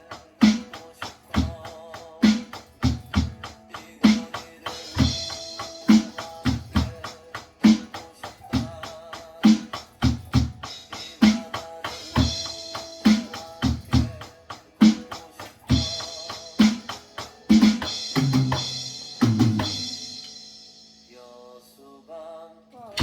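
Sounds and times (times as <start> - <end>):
electronic drum kit beat: 0.0 - 21.0
backing track music: 0.0 - 21.6.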